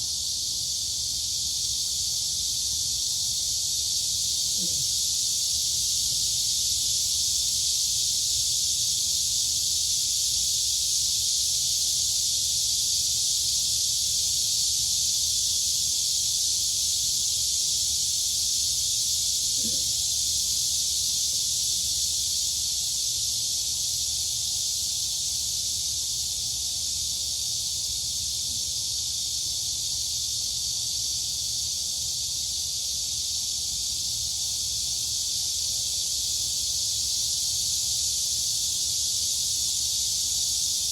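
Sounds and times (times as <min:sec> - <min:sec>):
crickets and cicadas buzzing: 0:00.0 - 0:40.9.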